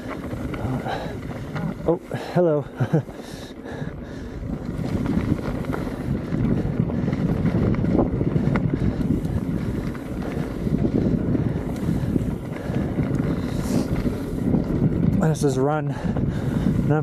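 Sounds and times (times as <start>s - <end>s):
skis scraping packed snow: 0.0s - 17.0s
wind rushing over microphone: 0.0s - 17.0s.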